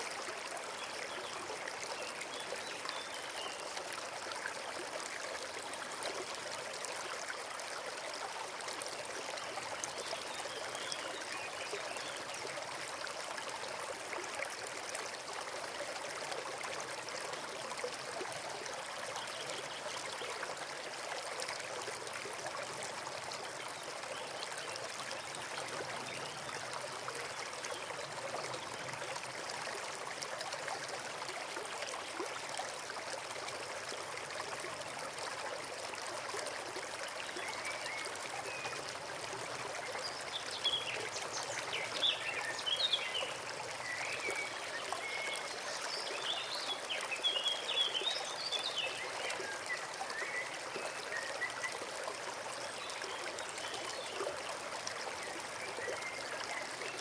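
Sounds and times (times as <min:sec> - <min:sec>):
forest stream babbling: 0:00.0 - 0:57.0.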